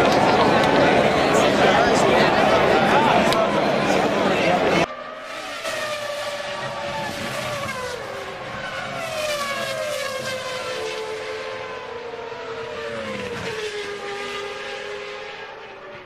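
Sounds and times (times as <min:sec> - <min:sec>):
racing car engines at high revs: 0:00.0 - 0:16.0.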